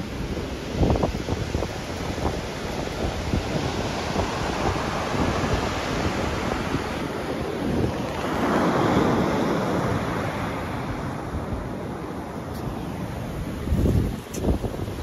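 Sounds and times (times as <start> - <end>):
waves washing onto pebble beach: 0.0 - 15.0.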